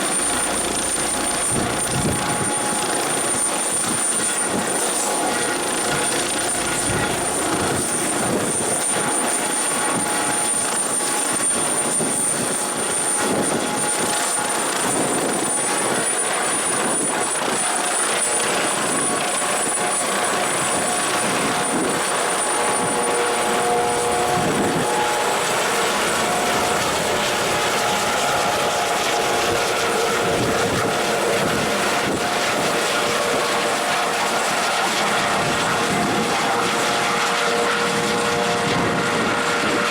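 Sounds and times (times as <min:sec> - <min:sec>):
helicopter rotor noise: 0:00.0 - 0:39.9
high-pitched turbine whine: 0:00.0 - 0:39.9.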